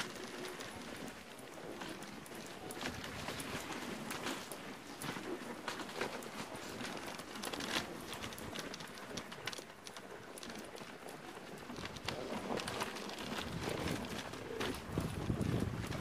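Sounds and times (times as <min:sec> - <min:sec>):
dogs' paws pattering on snow: 0:00.0 - 0:16.0.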